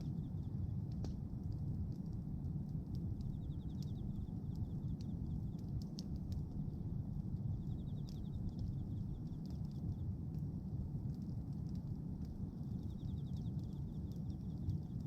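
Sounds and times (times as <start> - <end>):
bonfire crackling and popping: 0.0 - 15.0
low rumble of burning fire: 0.0 - 15.0.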